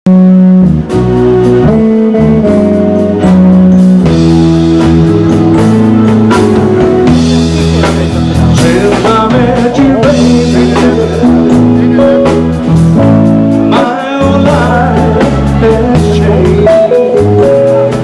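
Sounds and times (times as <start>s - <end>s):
rock music: 0.0s - 18.0s
low held bass notes: 0.1s - 18.0s
drum hits: 0.5s - 18.0s.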